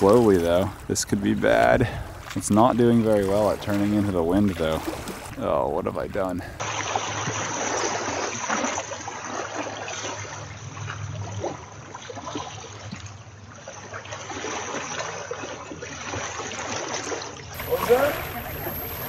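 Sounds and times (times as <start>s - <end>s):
lake water lapping and splashing: 0.0s - 19.0s.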